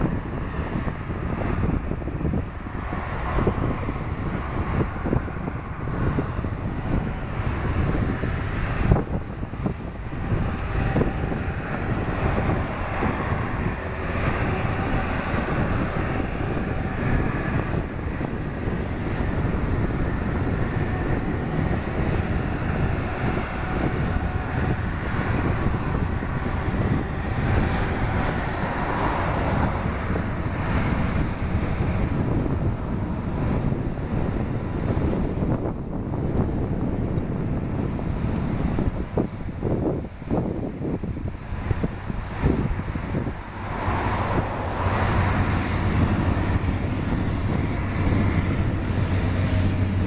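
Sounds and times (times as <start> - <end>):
jet engine noise with hiss: 0.0 - 50.0.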